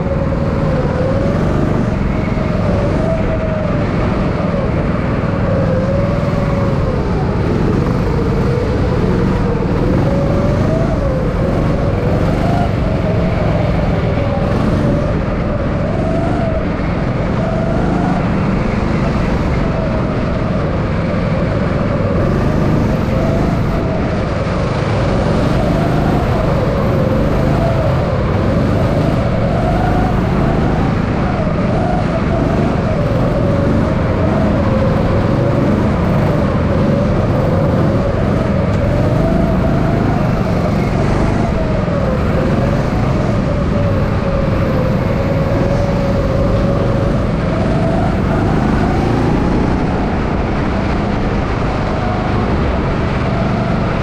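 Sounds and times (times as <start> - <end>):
go-kart engine revving: 0.0 - 54.0.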